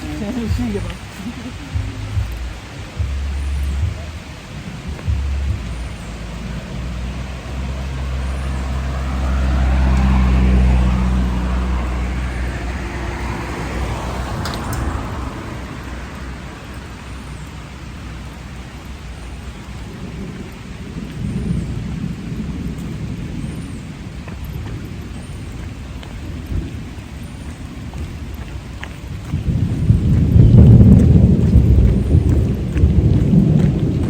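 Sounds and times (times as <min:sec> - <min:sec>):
rolling thunder: 0:00.0 - 0:34.0
steady rain: 0:00.0 - 0:34.0.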